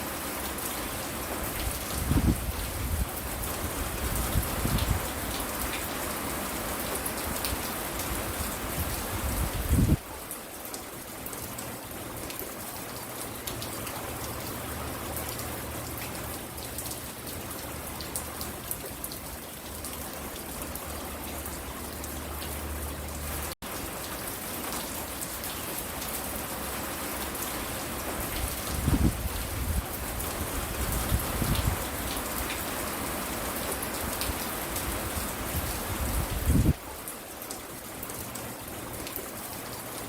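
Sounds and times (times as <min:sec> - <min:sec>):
raindrops ticking on surfaces: 0:00.0 - 0:40.0
steady rain falling: 0:00.0 - 0:40.0.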